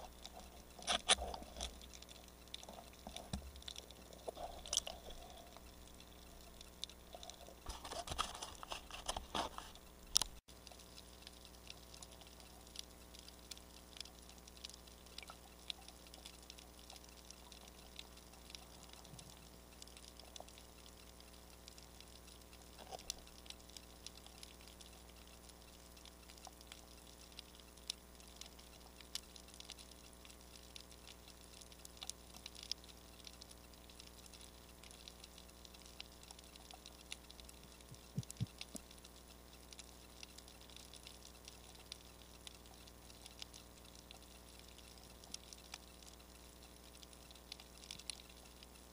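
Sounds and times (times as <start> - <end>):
low steady hum: 0.0 - 48.9
underwater clicks and crackles: 0.0 - 48.9.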